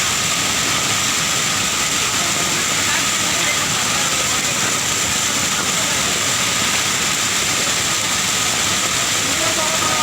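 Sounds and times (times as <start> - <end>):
fast-flowing floodwater rushing: 0.0 - 10.0.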